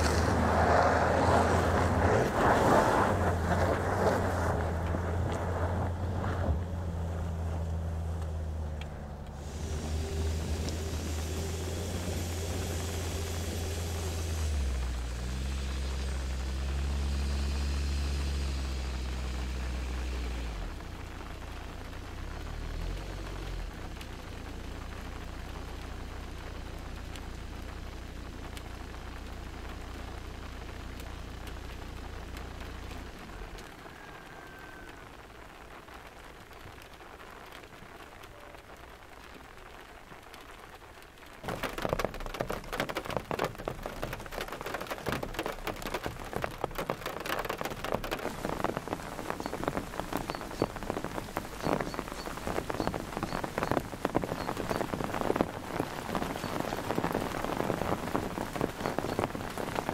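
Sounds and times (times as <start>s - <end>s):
rain patter: 0.0s - 59.9s.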